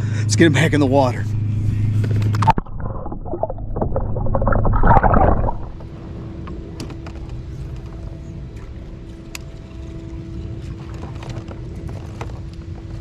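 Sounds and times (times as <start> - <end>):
faint hum: 0.0 - 13.0
water splashing and sloshing: 1.8 - 13.0.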